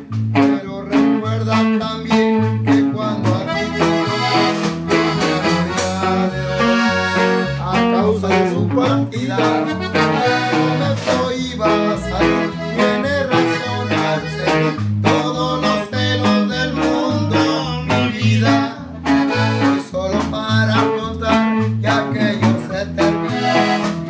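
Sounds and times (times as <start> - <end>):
bass line: 0.0 - 24.0
button accordion melody: 0.0 - 24.0
strummed bajo sexto: 0.0 - 24.0.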